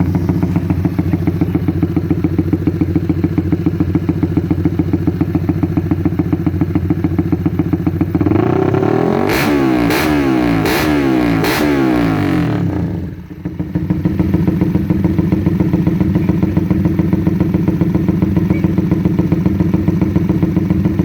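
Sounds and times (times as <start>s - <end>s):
motorcycle engine idling: 0.0s - 21.0s
motorcycle engine revving: 0.0s - 21.0s.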